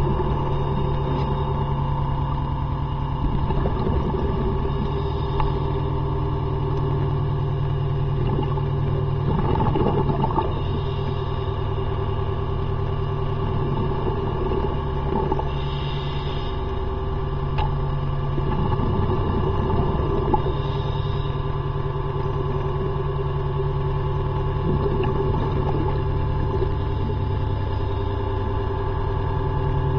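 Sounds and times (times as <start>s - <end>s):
propeller motor humming: 0.0s - 29.9s.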